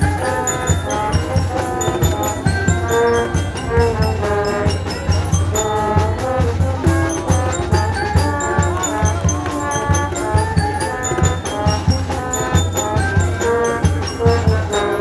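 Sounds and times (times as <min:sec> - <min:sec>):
steady drumbeat: 0:00.0 - 0:15.0
sustained brass notes: 0:00.0 - 0:15.0.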